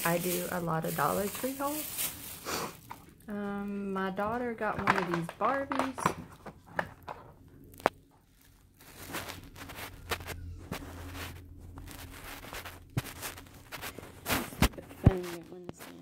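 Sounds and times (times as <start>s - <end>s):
plastic bags rustling: 0.0s - 16.0s.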